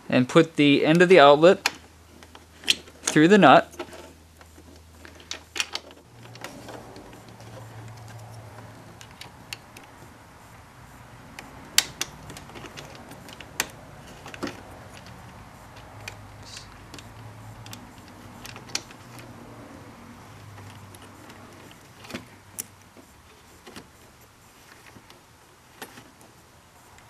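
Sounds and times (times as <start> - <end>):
plastic and metal parts clicking: 1.6 - 10.0, 11.3 - 19.4, 20.3 - 26.3.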